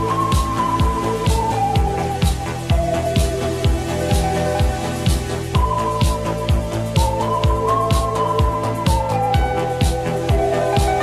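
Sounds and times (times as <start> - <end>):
kick drum: 0.0 - 11.0.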